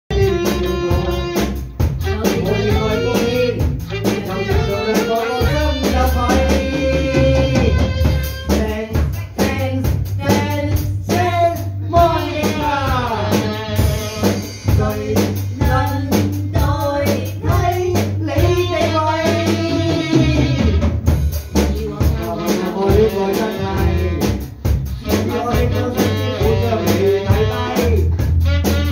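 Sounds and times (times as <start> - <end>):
pop song with singer and band: 0.1 - 28.9.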